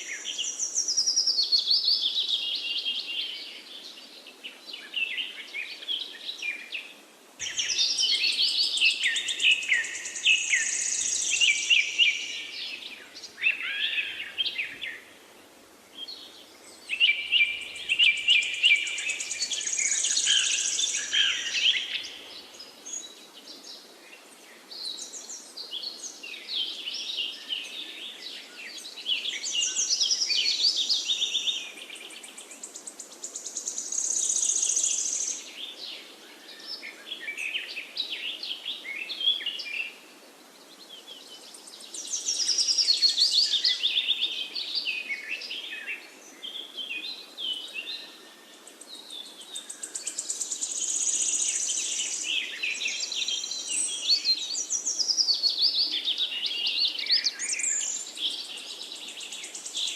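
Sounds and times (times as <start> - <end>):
forest birds chirping: 0.0 - 59.9.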